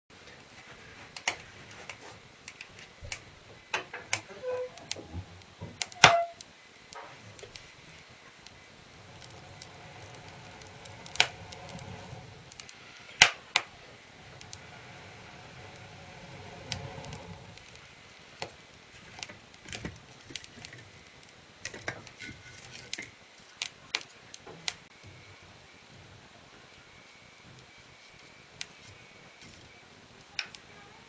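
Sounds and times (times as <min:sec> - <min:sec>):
fire crackling: 0:00.1 - 0:31.0.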